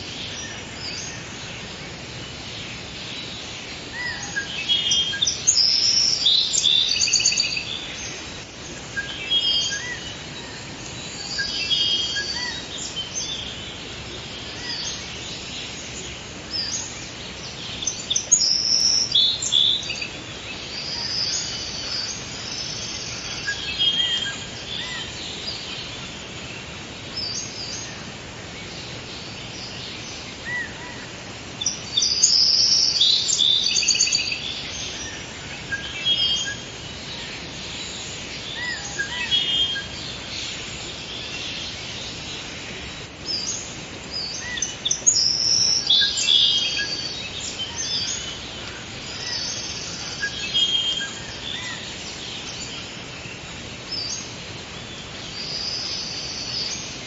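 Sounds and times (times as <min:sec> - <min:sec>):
birds singing and chirping: 0:00.0 - 0:57.0
steady background hiss: 0:00.0 - 0:57.0.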